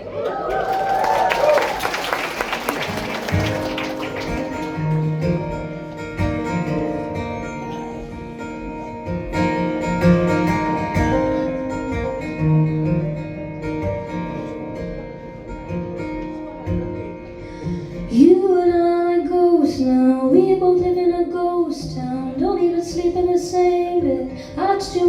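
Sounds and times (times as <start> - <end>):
acoustic guitar chords: 2.8 - 25.0.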